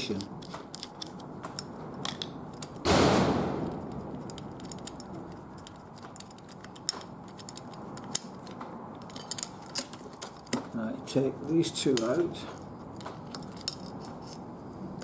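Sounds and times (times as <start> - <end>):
metal clicks and taps: 0.0 - 2.9, 3.6 - 10.8, 11.8 - 14.4.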